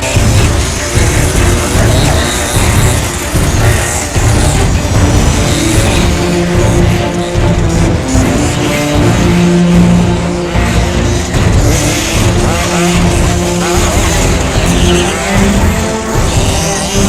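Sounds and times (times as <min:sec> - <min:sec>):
background music: 0:00.0 - 0:17.0
rc car engines revving: 0:00.0 - 0:17.0.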